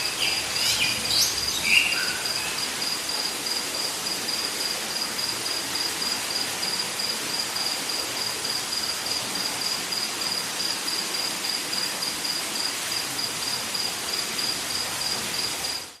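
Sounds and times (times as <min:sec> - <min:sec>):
dense hiss of insects: 0:00.0 - 0:16.0
high pulsing insect chirp: 0:00.0 - 0:16.0.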